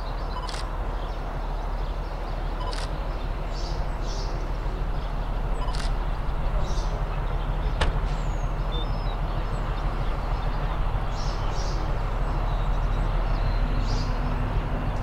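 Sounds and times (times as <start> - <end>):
birds chirping: 0.0 - 15.0
diesel train engine rumbling: 0.0 - 15.0.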